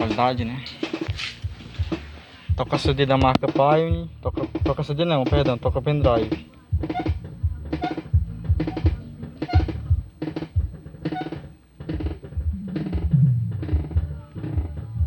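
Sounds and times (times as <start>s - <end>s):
music with heavy bass and drum beat: 0.0s - 15.0s.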